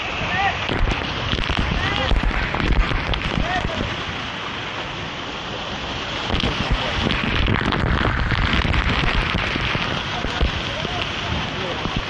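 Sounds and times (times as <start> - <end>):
waterfall splashing on microphone: 0.0 - 12.0.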